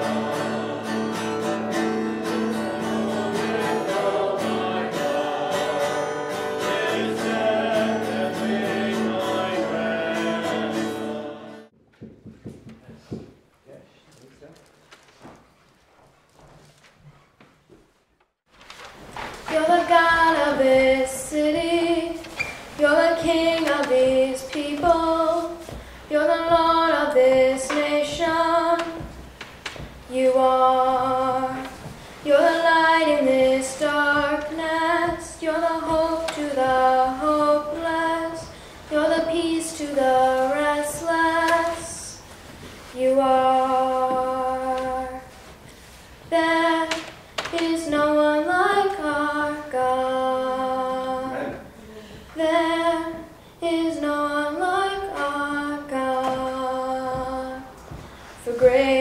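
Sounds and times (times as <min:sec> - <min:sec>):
girl singing unaccompanied: 0:00.0 - 0:11.7, 0:19.4 - 0:59.0.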